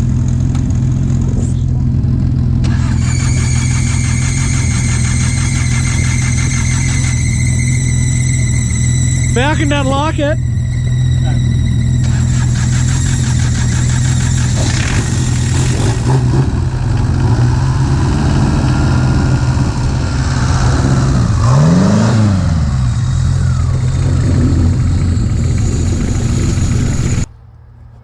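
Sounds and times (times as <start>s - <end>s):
car engine idling: 0.0s - 27.6s.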